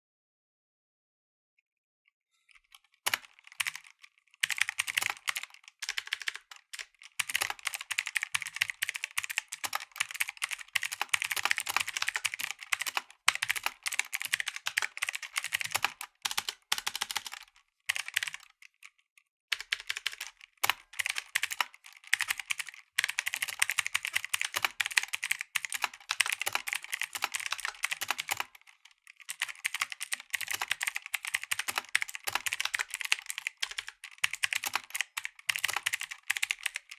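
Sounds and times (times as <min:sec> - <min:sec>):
mechanical keyboard typing: 0:02.5 - 0:36.9.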